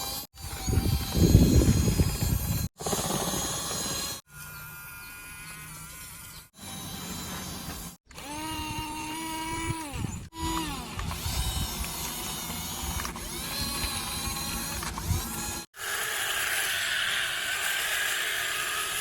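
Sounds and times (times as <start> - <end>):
toy motors whirring and rattling: 0.0 - 19.0.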